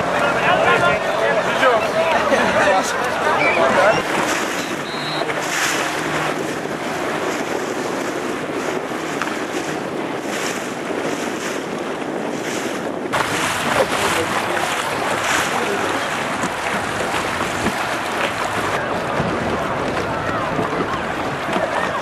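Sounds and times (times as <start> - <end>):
water splashing and lapping: 0.0 - 22.0
wind rushing across microphone: 0.0 - 22.0.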